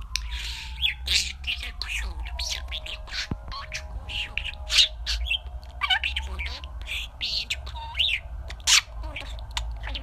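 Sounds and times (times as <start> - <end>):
budgerigars chattering: 0.2 - 10.0.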